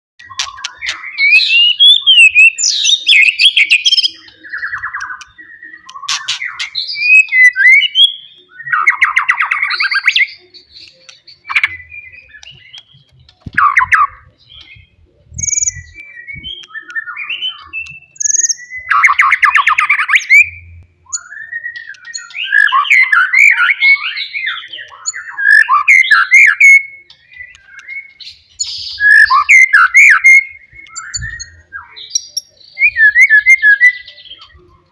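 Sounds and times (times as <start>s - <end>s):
bird singing loudly: 0.2s - 34.9s.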